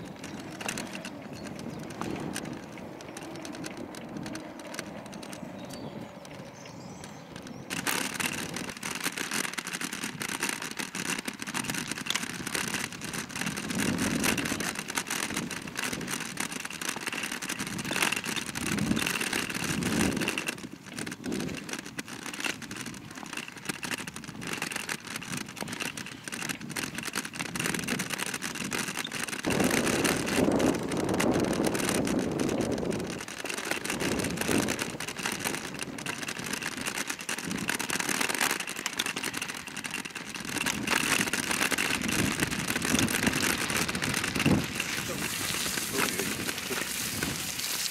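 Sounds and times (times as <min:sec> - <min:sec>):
kick bike rumbling on dirt path: 0:00.0 - 0:47.9.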